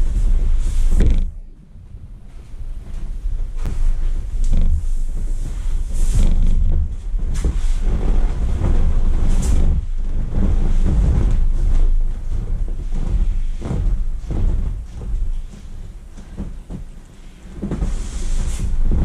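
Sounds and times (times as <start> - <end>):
vinyl swim ring creaking: 0.0 - 1.4, 2.8 - 19.0
heavy low rumble: 0.0 - 19.0.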